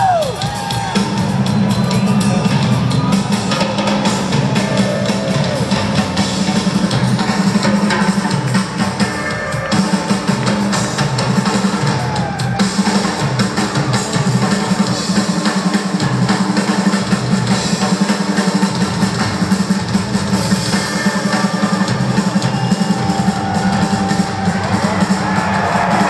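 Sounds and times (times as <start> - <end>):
rock drum solo: 0.0 - 26.0.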